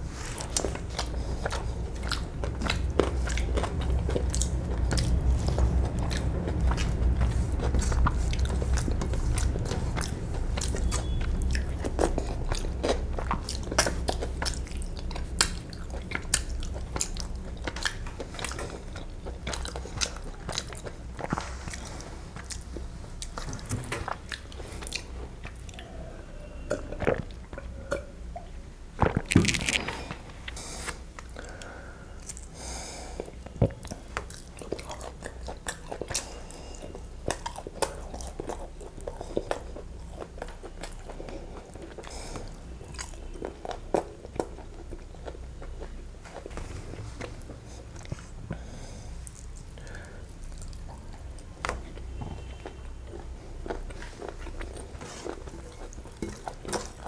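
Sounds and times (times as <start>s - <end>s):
chewing with lip smacks: 0.4s - 29.9s, 33.2s - 57.0s.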